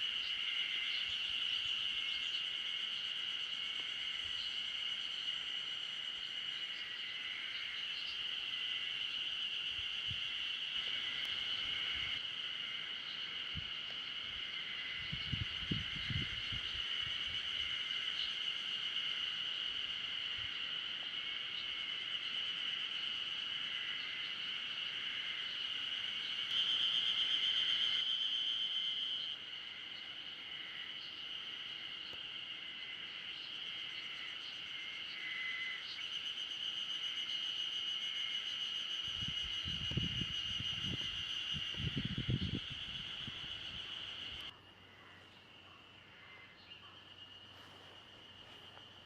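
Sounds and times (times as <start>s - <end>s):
insects buzzing: 0.0s - 49.0s.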